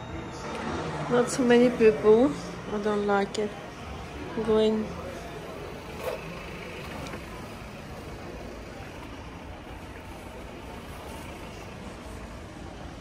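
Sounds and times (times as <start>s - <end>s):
street ambience rumble: 0.0s - 13.0s.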